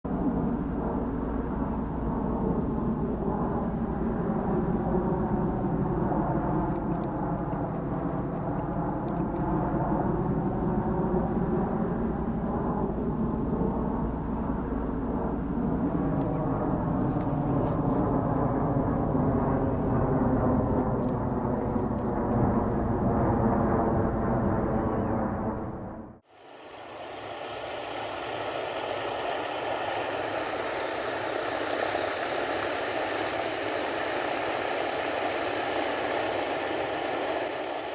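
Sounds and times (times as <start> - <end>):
jet airliner passing overhead: 0.1 - 37.9.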